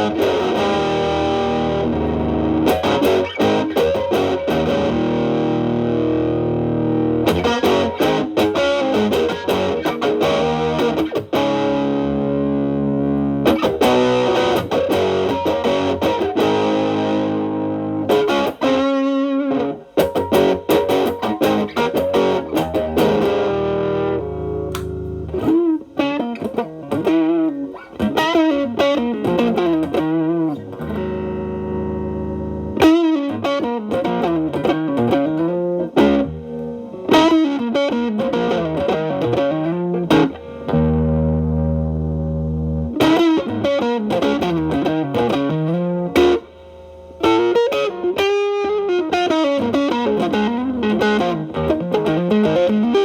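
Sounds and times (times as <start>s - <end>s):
overdriven electric guitar: 0.0s - 53.0s.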